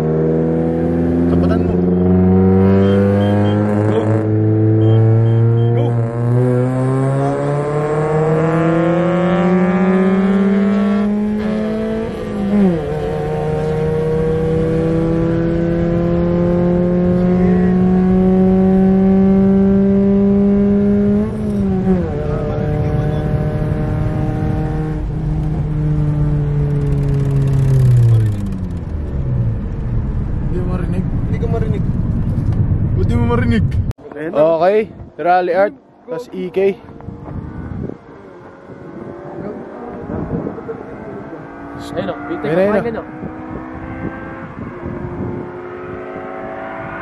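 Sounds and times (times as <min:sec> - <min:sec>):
car engine at full throttle: 0:00.0 - 0:47.0.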